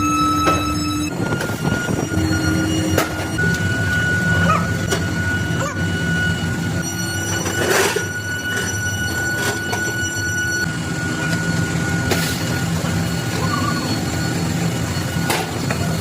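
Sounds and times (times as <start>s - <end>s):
metal-cutting machine running: 0.0s - 16.0s.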